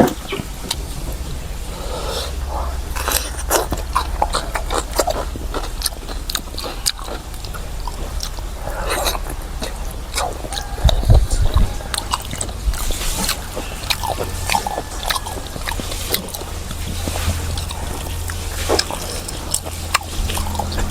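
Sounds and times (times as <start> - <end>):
person chewing food: 0.0 - 20.9
steady low hum: 0.0 - 20.9.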